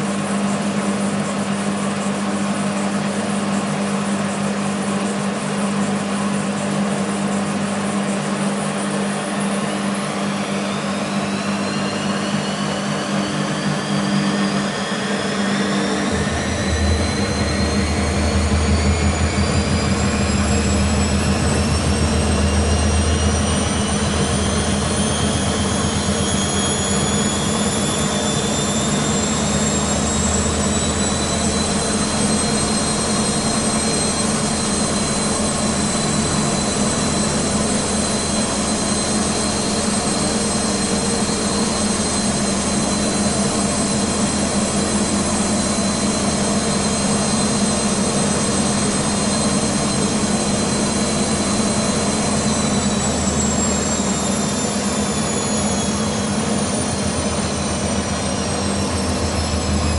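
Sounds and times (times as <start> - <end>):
motor whine: 0.0 - 59.9
washing machine spinning: 0.0 - 59.9.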